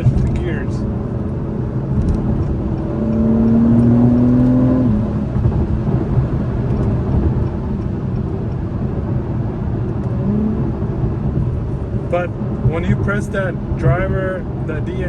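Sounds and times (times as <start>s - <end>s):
car engine accelerating: 0.0s - 15.0s
road noise: 0.0s - 15.0s.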